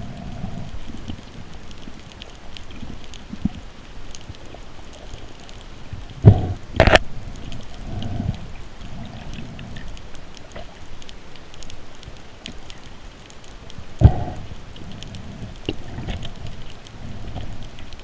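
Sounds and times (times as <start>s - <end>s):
faint crackling ticks: 0.0s - 18.0s
water noise: 0.0s - 18.0s.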